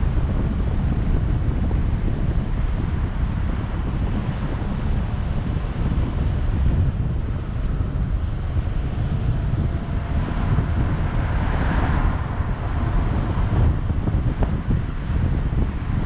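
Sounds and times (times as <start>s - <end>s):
car road noise: 0.0s - 16.0s
wind rumble on microphone: 0.0s - 16.0s
oncoming car passing: 2.7s - 16.0s.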